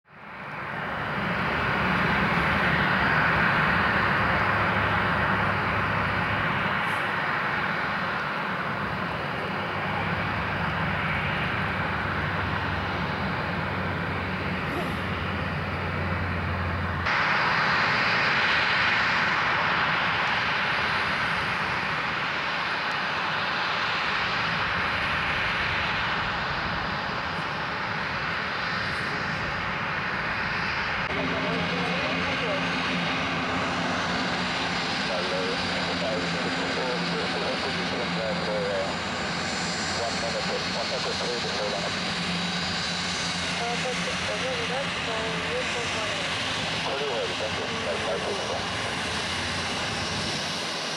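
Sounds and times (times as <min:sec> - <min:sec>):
jet engine taxiing: 0:00.1 - 0:50.9.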